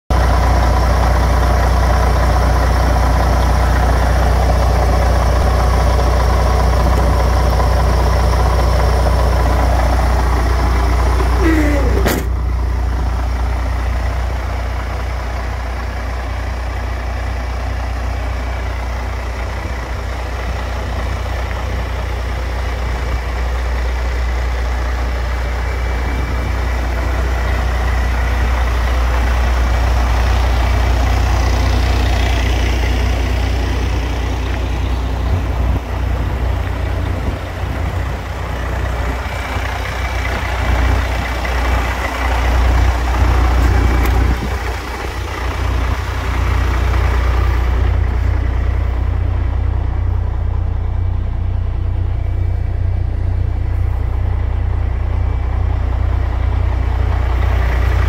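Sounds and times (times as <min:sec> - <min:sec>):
diesel engine idling: 0:00.1 - 0:58.0.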